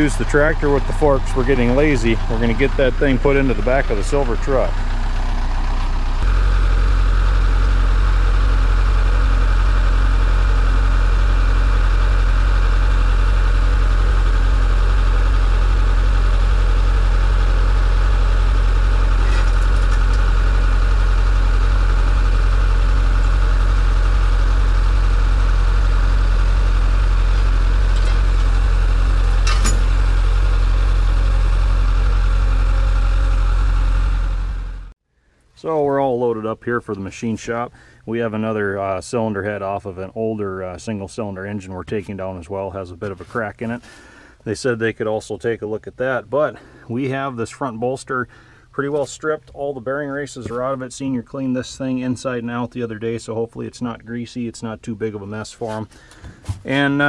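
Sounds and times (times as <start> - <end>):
diesel engine rumbling: 0.0 - 35.0, 35.6 - 57.0.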